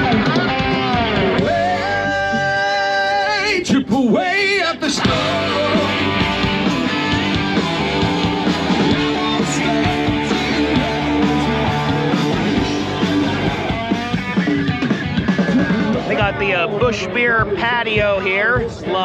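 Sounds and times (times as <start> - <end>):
bass guitar: 0.0 - 19.0
drums: 0.0 - 19.0
electric guitars strumming: 0.0 - 19.0.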